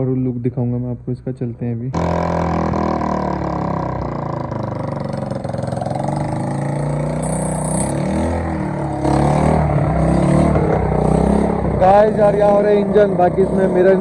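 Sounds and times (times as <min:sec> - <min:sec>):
motorcycle engine running: 0:02.0 - 0:14.0.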